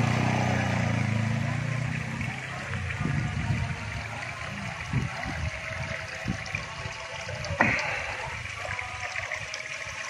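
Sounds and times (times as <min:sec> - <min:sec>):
water running into a pond: 0:00.0 - 0:10.0.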